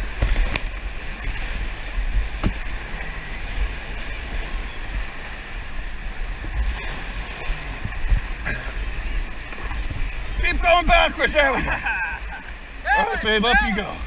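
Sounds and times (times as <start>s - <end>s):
whitewater rapids rushing: 0.0s - 14.0s.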